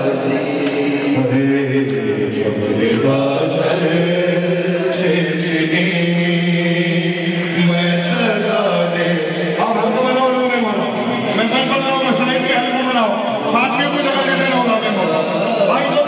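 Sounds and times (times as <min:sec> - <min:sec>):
man chanting a lament: 0:00.0 - 0:16.0.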